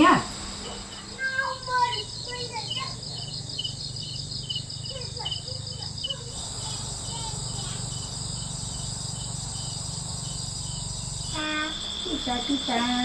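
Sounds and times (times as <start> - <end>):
high insect trill: 0.0 - 13.0
insects chirping: 0.0 - 13.0
low steady hum: 0.0 - 13.0.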